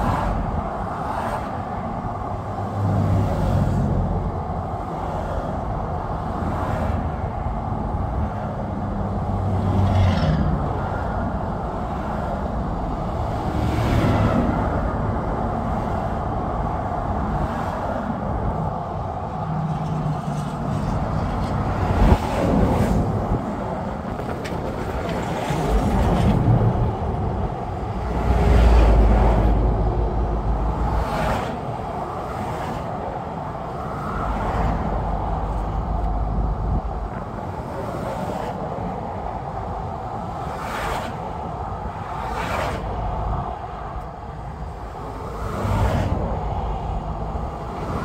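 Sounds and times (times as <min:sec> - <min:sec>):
vehicle engine rumbling: 0:00.0 - 0:40.5
wind noise on microphone: 0:00.0 - 0:48.0.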